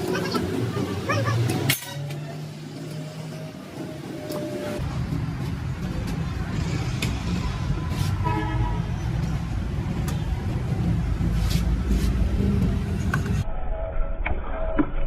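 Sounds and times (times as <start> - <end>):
engine rumbling: 0.0 - 13.4.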